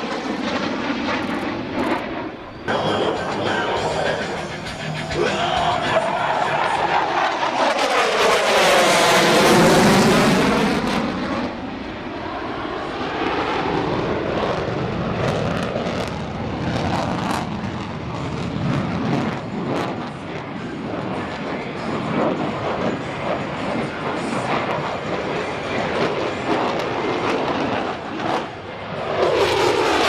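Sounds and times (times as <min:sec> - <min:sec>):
jet aircraft passing: 0:00.0 - 0:30.0.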